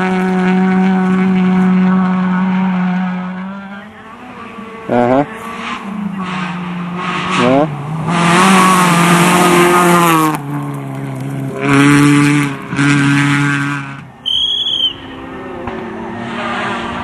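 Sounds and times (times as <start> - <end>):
rally car engines revving: 0.0 - 17.0.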